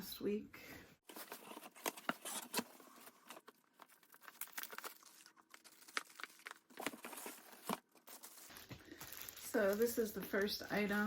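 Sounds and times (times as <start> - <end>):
cardboard box crinkling and rustling: 1.1 - 11.0.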